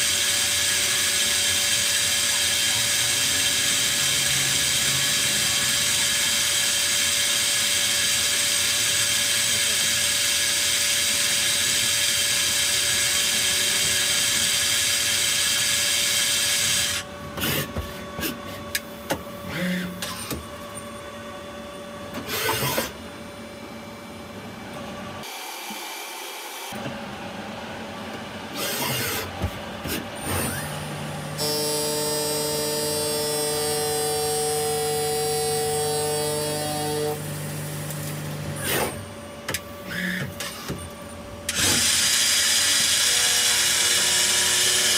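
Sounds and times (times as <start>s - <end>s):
steady machine whine: 0.0s - 44.9s.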